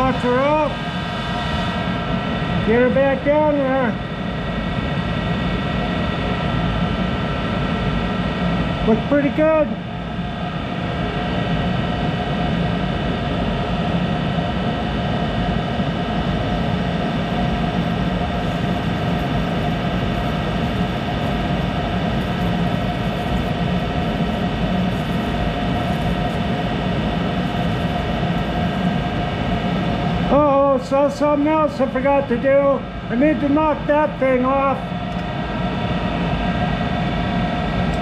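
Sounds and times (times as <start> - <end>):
lathe running with hum and whine: 0.0 - 38.0.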